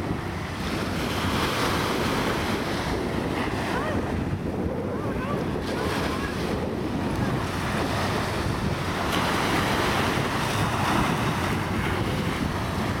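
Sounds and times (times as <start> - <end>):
small waves washing onto beach: 0.0 - 13.0
wind buffeting microphone: 0.0 - 13.0.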